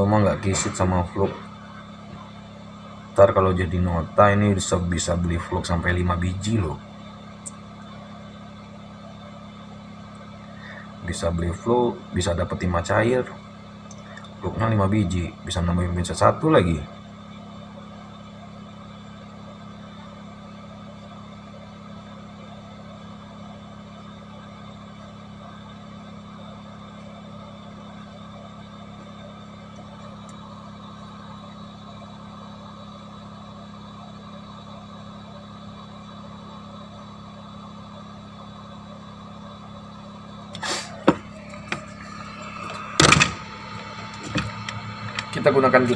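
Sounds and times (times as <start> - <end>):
hot-air station humming and hissing: 0.0 - 45.9.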